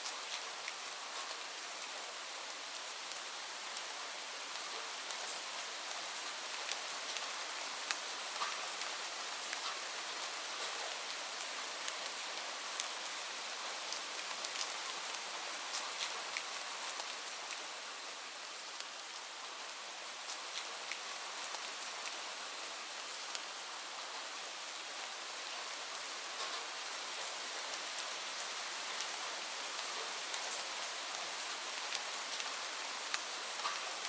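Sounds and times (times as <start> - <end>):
rain falling on leaves: 0.0 - 34.0.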